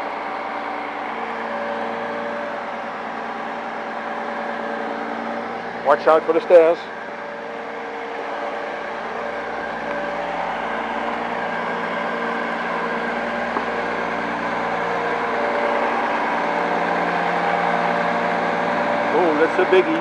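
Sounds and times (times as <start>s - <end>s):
crane diesel engine running: 0.0s - 20.0s.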